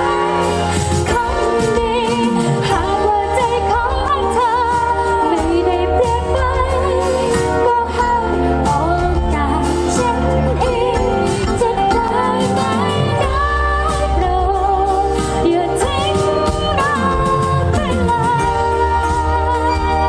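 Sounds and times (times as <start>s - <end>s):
band with acoustic guitar and drums: 0.0s - 20.0s
woman singing a pop ballad: 0.0s - 20.0s.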